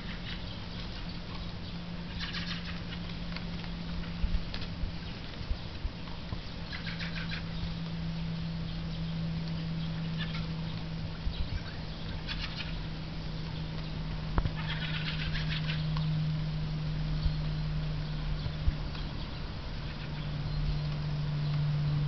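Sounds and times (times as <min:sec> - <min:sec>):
birds giving rattling chack calls: 0:00.0 - 0:04.2, 0:06.4 - 0:16.4, 0:17.0 - 0:21.6
steady low hum: 0:00.0 - 0:22.0.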